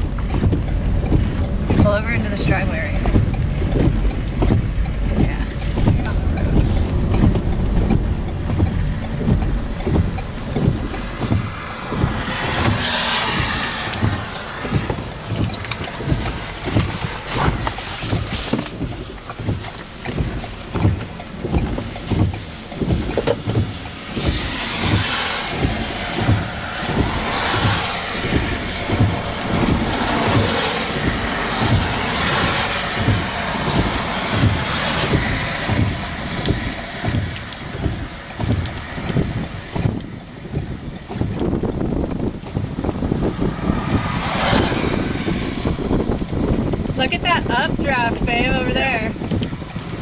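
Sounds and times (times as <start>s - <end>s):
knocks and buffets: 0.0s - 50.0s
low road rumble: 0.0s - 50.0s
regular low thumps: 0.0s - 50.0s
wind noise: 0.0s - 50.0s.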